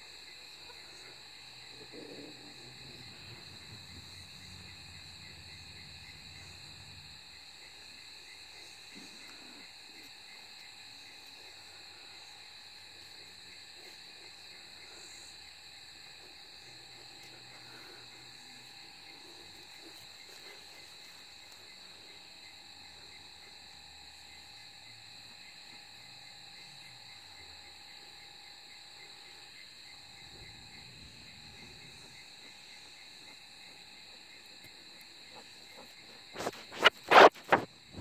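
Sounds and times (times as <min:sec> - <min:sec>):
faint regular pulsing: 0:00.0 - 0:26.0, 0:28.9 - 0:38.0
insects chirring: 0:00.0 - 0:38.0.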